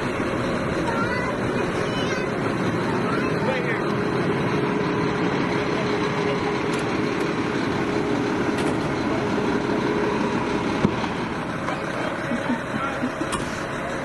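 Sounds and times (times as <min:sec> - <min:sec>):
garbage truck running: 0:00.0 - 0:14.0.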